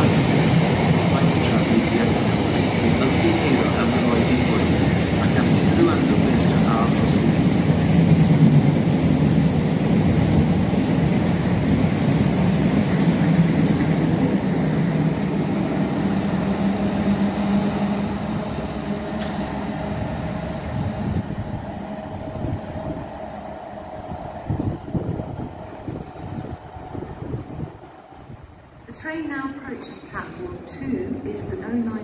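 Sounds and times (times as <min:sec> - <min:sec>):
freight train rumbling past: 0:00.0 - 0:32.0.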